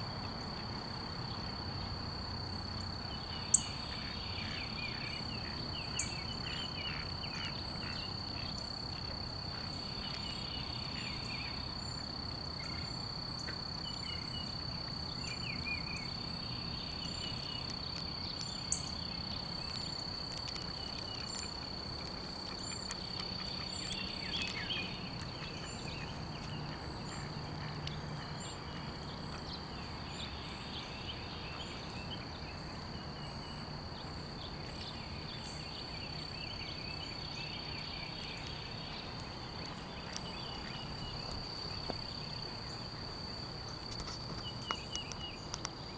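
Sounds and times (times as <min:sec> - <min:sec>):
high-pitched insect trill: 0:00.4 - 0:45.9.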